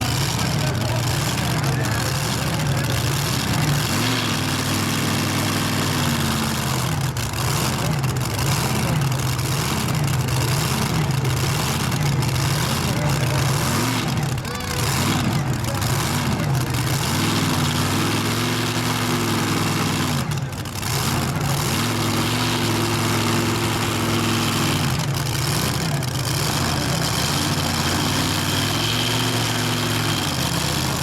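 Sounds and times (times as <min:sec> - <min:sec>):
tractor engine revving: 0:00.0 - 0:31.0.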